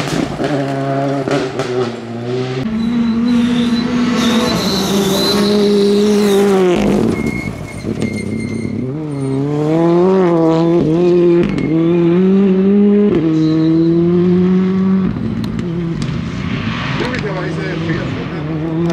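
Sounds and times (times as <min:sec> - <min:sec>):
rally car engine revving: 0:00.0 - 0:18.9.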